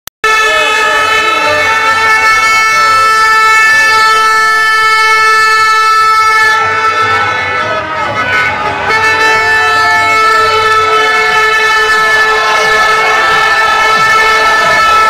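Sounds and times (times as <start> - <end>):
faint shouting voices: 0.2 - 15.0
horn blowing a long note: 0.2 - 15.0.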